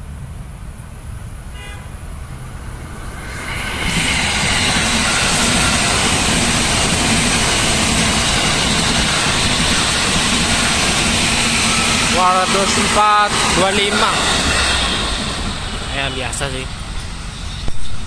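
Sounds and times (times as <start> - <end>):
electric train passing: 0.0 - 18.0.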